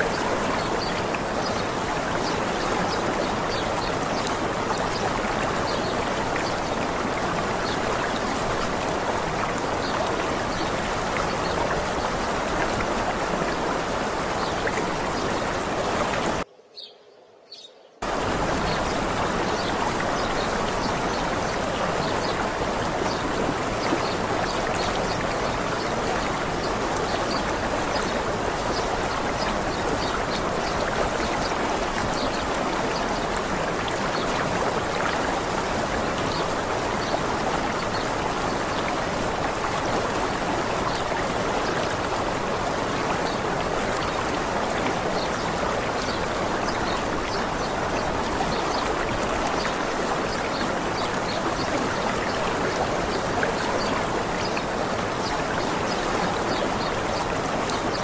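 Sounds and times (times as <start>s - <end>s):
rushing water: 0.0s - 16.5s, 18.0s - 58.0s.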